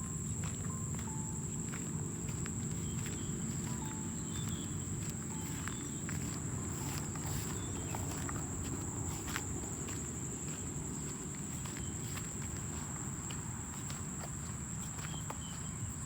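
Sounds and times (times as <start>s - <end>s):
footsteps crunching in field: 0.0s - 16.0s
insects droning: 0.0s - 16.0s.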